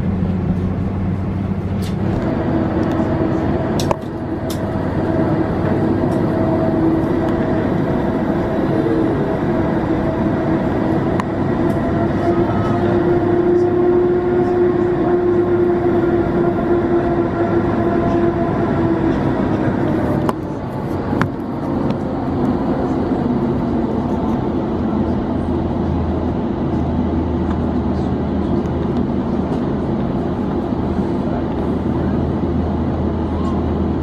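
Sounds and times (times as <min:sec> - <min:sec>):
aircraft engine noise: 0:00.0 - 0:34.0
low hum: 0:00.0 - 0:34.0.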